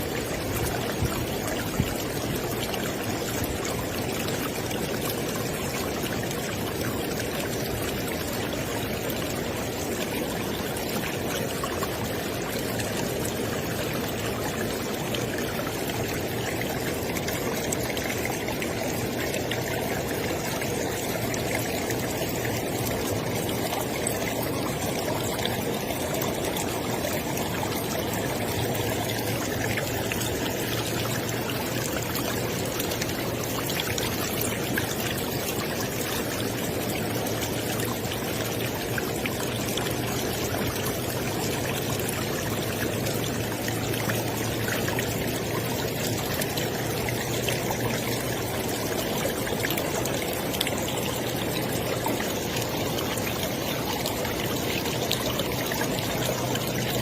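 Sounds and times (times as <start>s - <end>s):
river water rushing and splashing: 0.0s - 57.0s.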